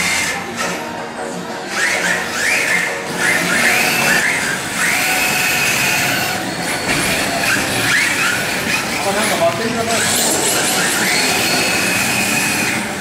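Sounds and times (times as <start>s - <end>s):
remote control cars motors whining: 0.0s - 1.0s, 1.6s - 13.0s.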